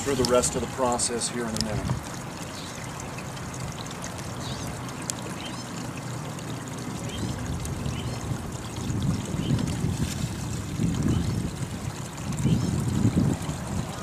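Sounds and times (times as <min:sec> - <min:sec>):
pump: 0:00.0 - 0:14.0
water running down a sluice: 0:00.0 - 0:14.0.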